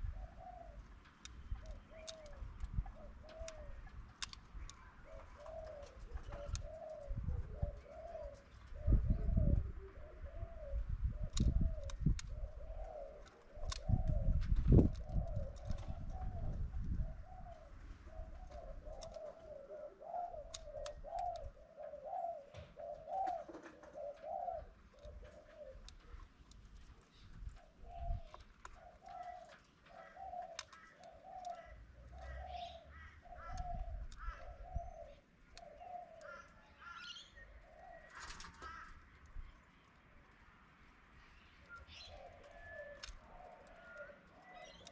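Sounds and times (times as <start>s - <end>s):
dove cooing: 0.0s - 26.3s, 27.3s - 39.0s, 41.6s - 44.9s
small birds chirping: 0.0s - 44.9s.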